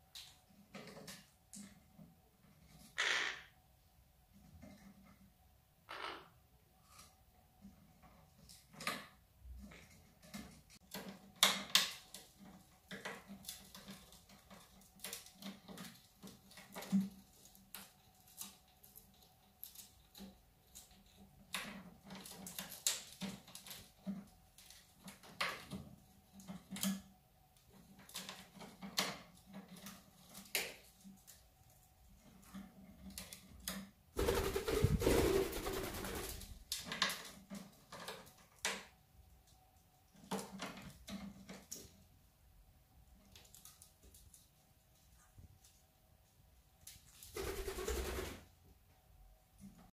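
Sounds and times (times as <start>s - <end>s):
parakeets pecking and chewing wood: 0.0s - 3.3s, 6.8s - 47.9s.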